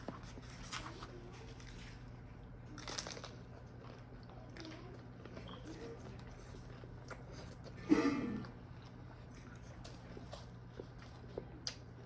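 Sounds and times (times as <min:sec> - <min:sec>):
chewing a taco: 0:00.0 - 0:12.0.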